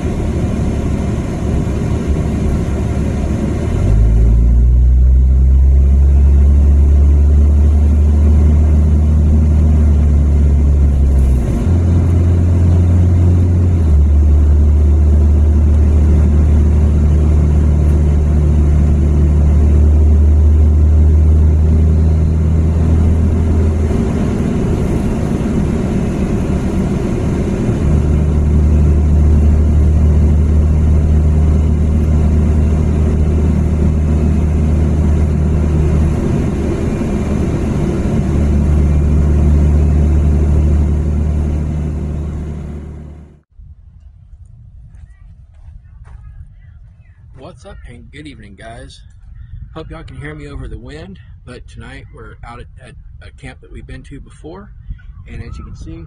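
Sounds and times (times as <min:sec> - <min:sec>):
car engine and road drone: 0:00.0 - 0:44.7, 0:47.0 - 0:56.0.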